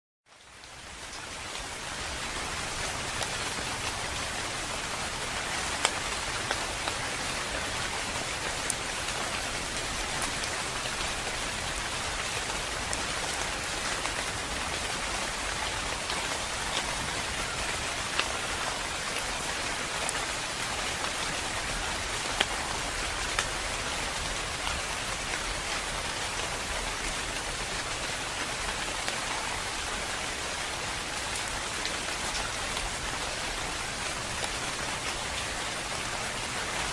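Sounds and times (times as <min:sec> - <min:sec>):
steady rain falling: 0:00.3 - 0:36.9.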